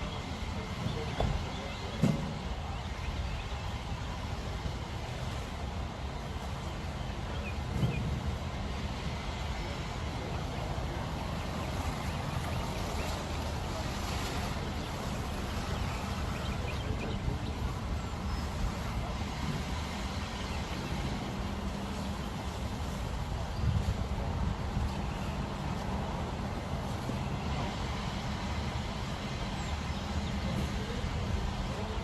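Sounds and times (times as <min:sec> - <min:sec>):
low rumbling noise: 0:00.0 - 0:32.0.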